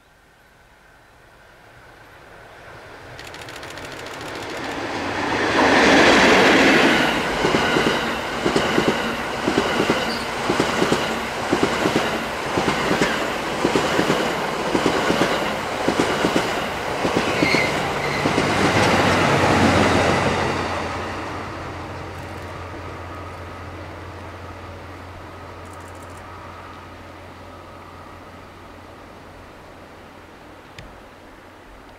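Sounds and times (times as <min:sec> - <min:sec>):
electric locomotive passing: 0:00.8 - 0:30.6.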